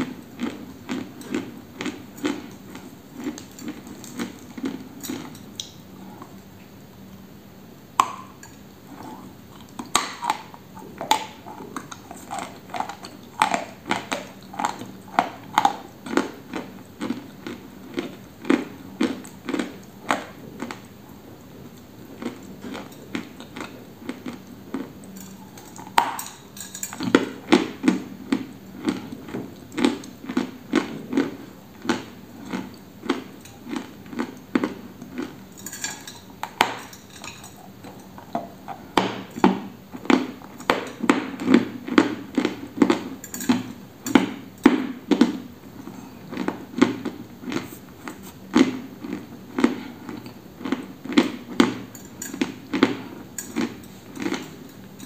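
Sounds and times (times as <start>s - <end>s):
crisp crunching chews: 0.4s - 6.4s, 8.9s - 20.9s, 21.6s - 39.0s, 45.1s - 54.7s.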